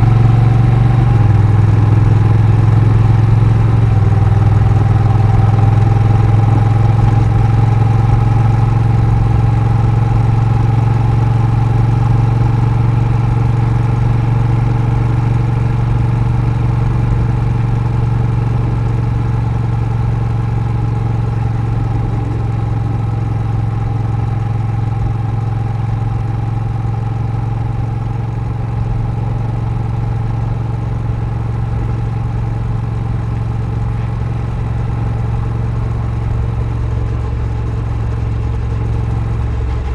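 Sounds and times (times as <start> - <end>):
motorcycle engine humming: 0.0 - 39.9.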